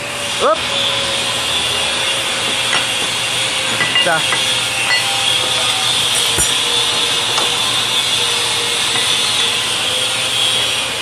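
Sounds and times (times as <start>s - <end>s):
low machine hum: 1.2s - 10.4s.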